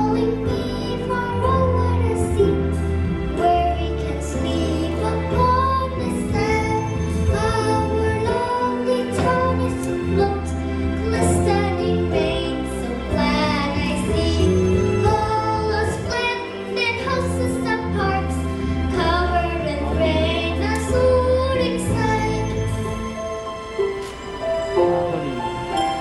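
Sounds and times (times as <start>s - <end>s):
child singing: 0.0s - 22.8s
musical backing track: 0.0s - 26.0s.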